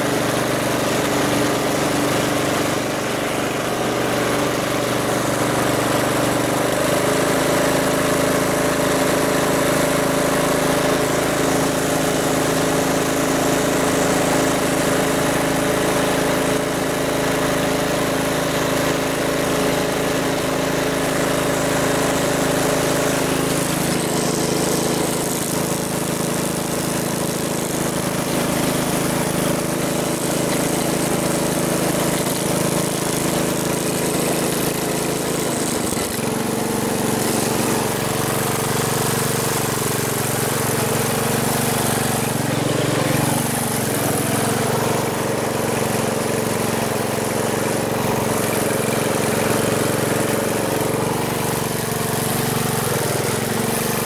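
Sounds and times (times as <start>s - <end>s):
car engine running: 0.0s - 15.6s, 20.2s - 54.0s.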